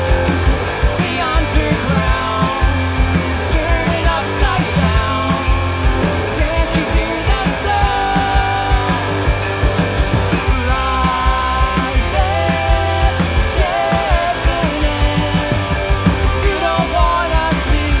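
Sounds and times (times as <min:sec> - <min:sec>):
bass guitar: 0:00.0 - 0:18.0
electric guitars: 0:00.0 - 0:18.0
fast drum beat: 0:00.0 - 0:18.0
people singing into microphones: 0:00.9 - 0:09.5, 0:10.6 - 0:18.0.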